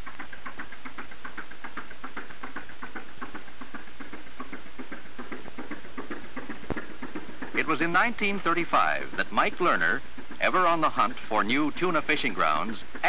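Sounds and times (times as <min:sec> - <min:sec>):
boat engine knocking: 0:00.0 - 0:13.0.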